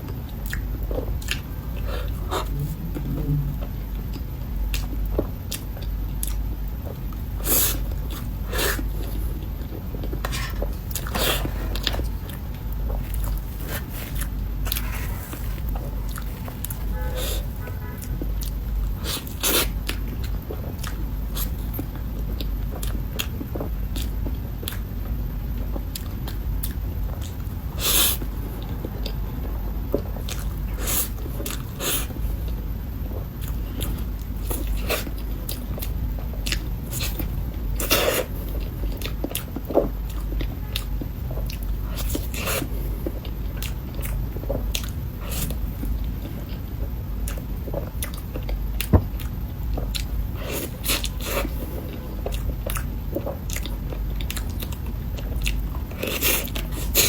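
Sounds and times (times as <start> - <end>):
wet chewing: 0.1 - 24.8, 33.2 - 57.0.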